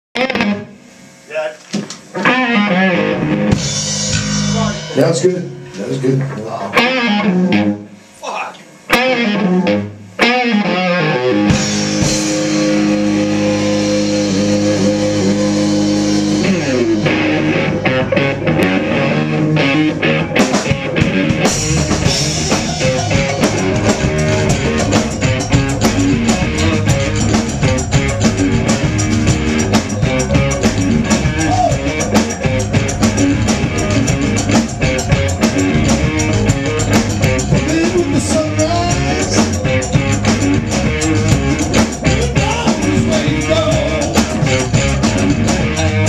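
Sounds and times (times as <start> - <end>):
bass guitar: 0.2 - 46.0
drum kit rock beat: 0.2 - 46.0
electric guitar: 0.2 - 46.0.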